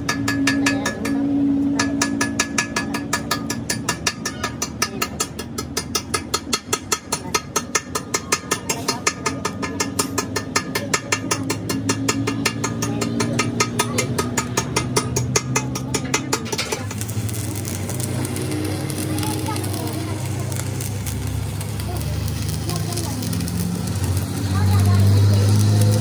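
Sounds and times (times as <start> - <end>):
hammer tapping on metal: 0.0 - 21.4.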